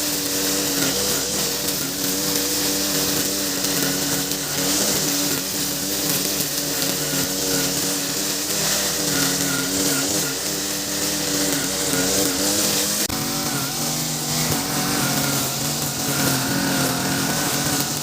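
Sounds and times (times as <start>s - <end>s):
brush cutter cutting grass: 0.0s - 18.0s.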